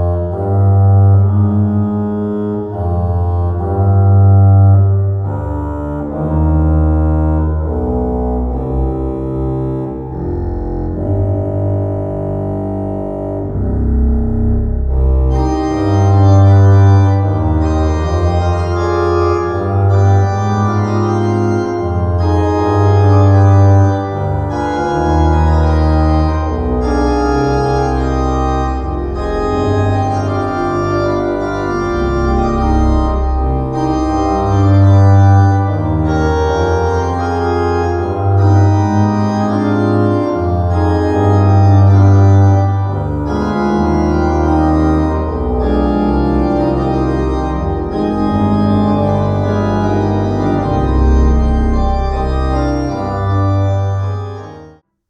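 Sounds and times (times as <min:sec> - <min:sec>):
organ chords: 0:00.0 - 0:54.8.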